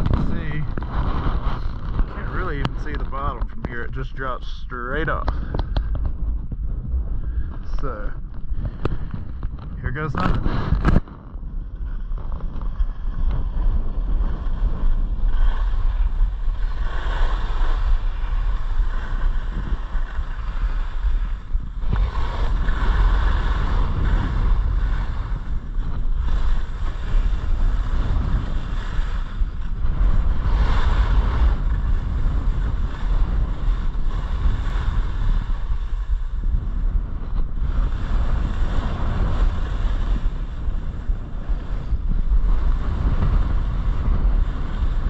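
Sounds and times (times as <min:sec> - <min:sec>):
skis scraping over snow: 0:00.0 - 0:45.0
wind buffeting microphone: 0:00.0 - 0:45.0.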